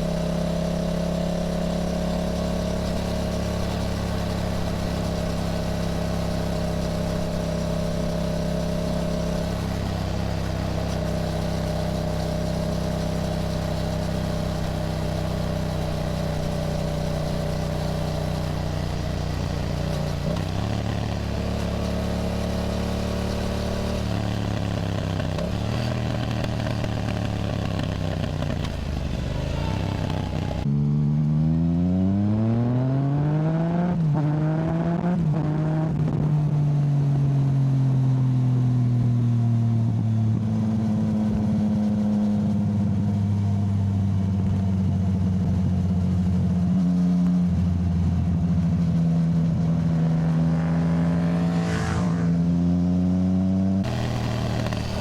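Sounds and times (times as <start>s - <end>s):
motorcycle engine: 0.0s - 36.3s, 39.6s - 55.0s.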